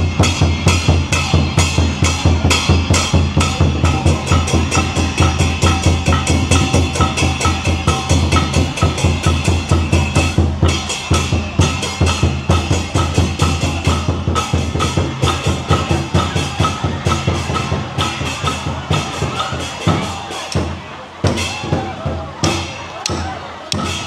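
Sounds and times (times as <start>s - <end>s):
drums beating fast rhythm: 0.0s - 24.0s.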